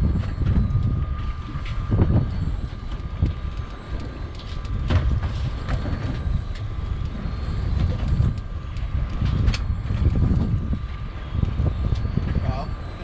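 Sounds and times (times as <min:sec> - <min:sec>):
faint steady whine: 0:00.0 - 0:13.0
wind buffeting microphone: 0:00.0 - 0:13.0.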